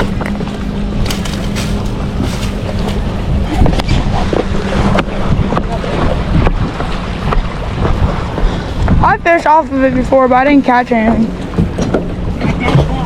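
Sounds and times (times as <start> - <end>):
jet ski engine hum: 0.0 - 13.0
water splashing against hull: 0.0 - 13.0
wind buffeting microphone: 0.0 - 13.0.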